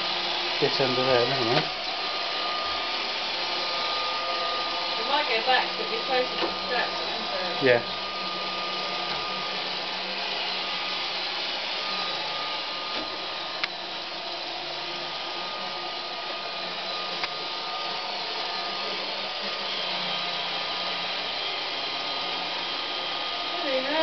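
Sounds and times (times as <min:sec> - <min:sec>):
robot vacuum cleaner whirring: 0:00.0 - 0:24.0.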